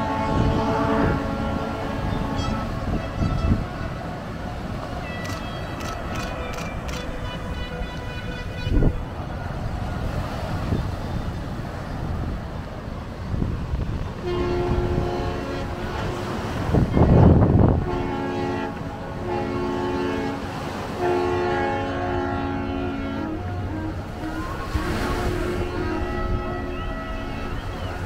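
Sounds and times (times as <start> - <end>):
held horn-like tones: 0.0 - 11.4, 14.2 - 28.0
waves washing onto beach: 0.0 - 28.0.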